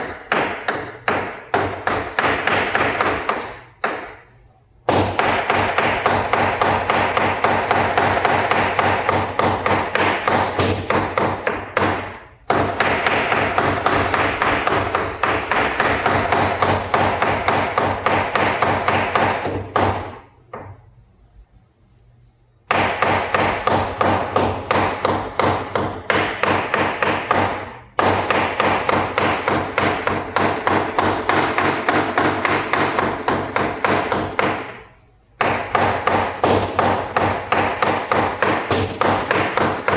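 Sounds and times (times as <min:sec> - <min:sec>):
knife chopping meat on block: 0:00.0 - 0:20.8, 0:22.7 - 0:39.9.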